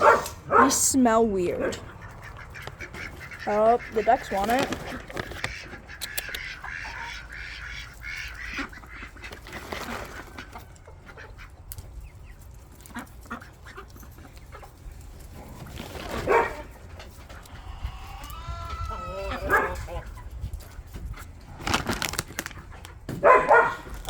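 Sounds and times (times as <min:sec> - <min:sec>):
ducks quacking: 0:00.0 - 0:15.0, 0:15.6 - 0:20.4.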